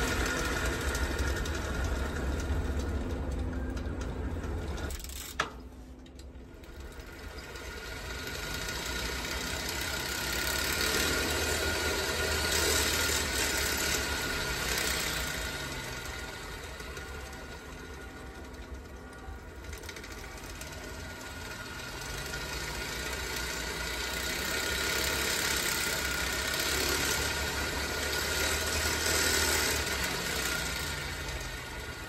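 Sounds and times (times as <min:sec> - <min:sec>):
pulley mechanism whirring and rattling: 0:00.0 - 0:32.0.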